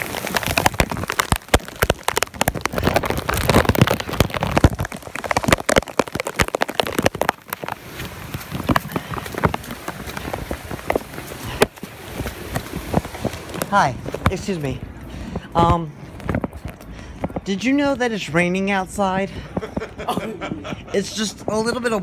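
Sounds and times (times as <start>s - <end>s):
heavy rain: 0.0s - 20.9s.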